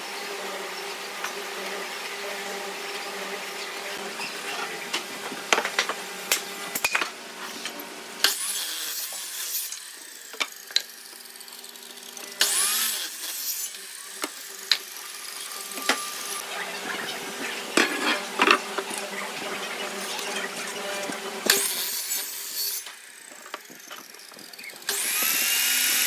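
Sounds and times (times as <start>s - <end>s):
miter saw cutting wood: 0.0s - 26.0s.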